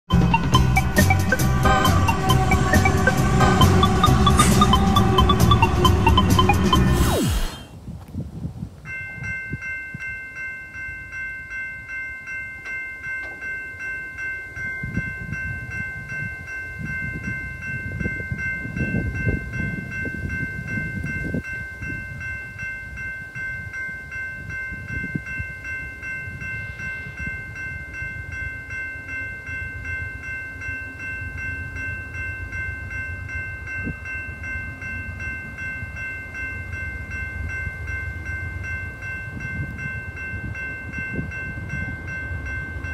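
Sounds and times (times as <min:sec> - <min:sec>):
railroad crossing bell dinging: 0:00.1 - 0:07.7, 0:08.8 - 0:42.9.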